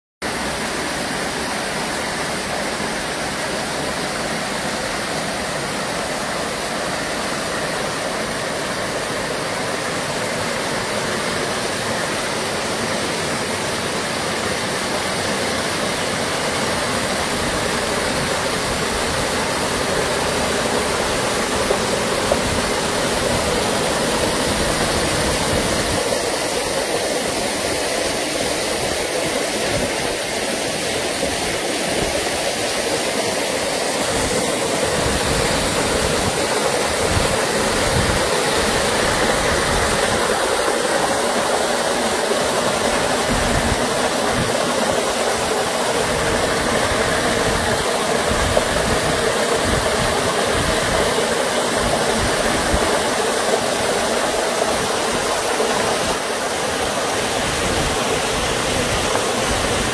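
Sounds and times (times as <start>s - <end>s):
waterfall rushing into a pool: 0.2s - 59.9s.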